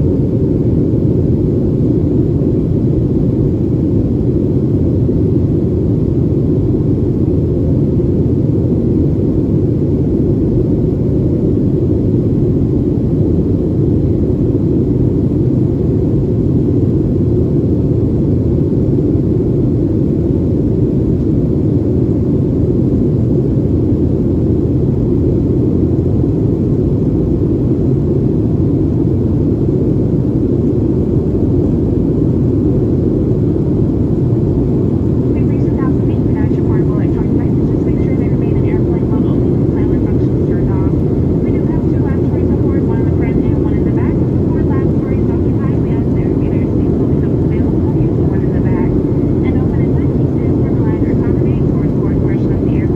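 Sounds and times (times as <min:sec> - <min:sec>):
jet engines low rumble: 0:00.0 - 0:52.9.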